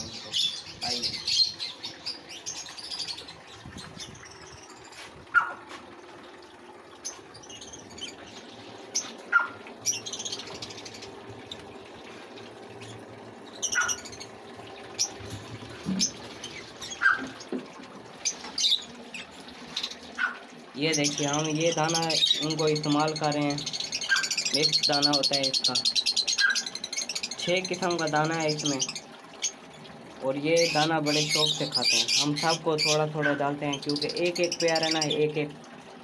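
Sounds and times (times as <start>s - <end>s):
birds chirping and squawking: 0.0s - 5.8s, 6.9s - 35.5s.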